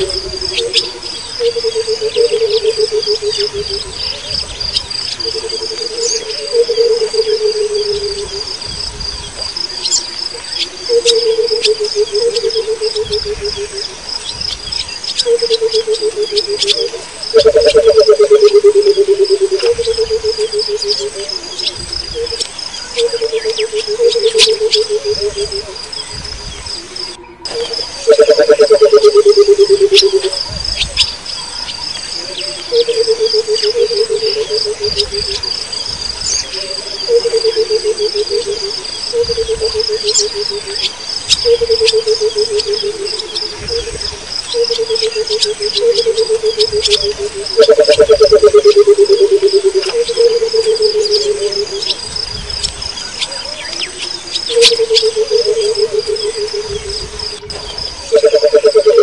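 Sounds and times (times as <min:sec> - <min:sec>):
coucal low hooting calls: 0:00.0 - 0:59.0
high insect trill: 0:00.0 - 0:59.0.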